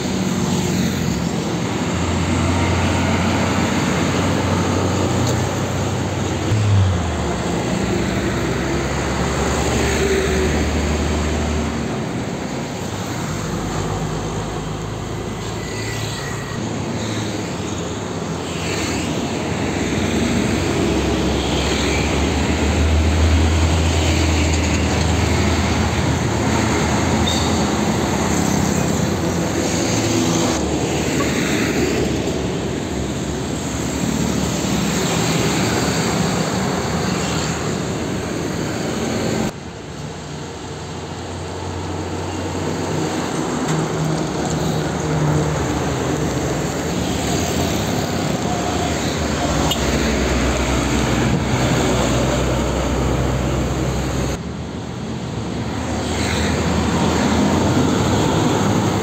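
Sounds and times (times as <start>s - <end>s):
motorcycles: 0.0s - 59.0s
tyre and road noise: 0.0s - 59.0s.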